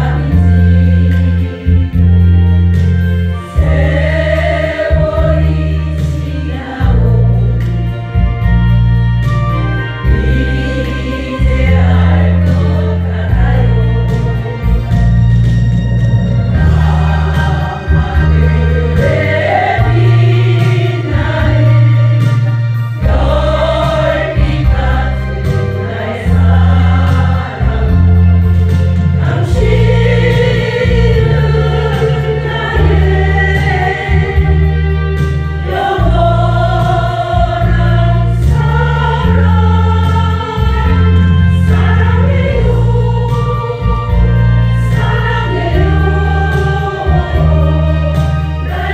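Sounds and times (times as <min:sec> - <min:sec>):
women's choir singing: 0:00.0 - 0:08.5, 0:09.7 - 0:48.9
low chordal accompaniment: 0:00.0 - 0:48.9.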